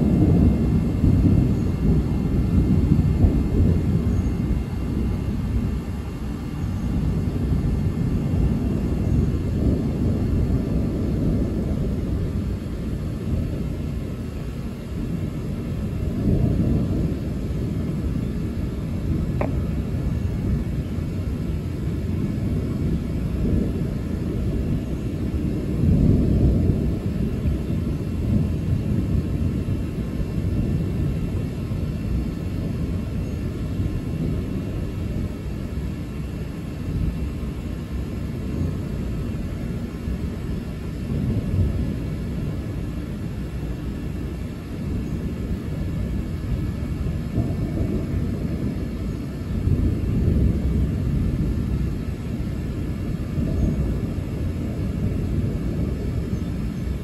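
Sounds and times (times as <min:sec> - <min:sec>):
rolling thunder: 0:00.0 - 0:57.0.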